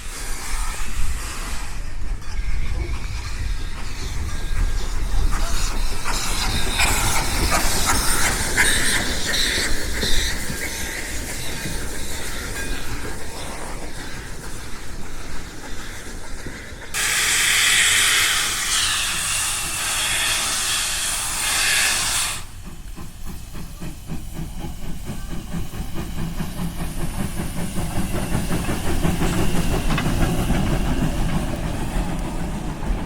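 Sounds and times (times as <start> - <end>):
locomotive steam hissing: 0.0 - 33.0.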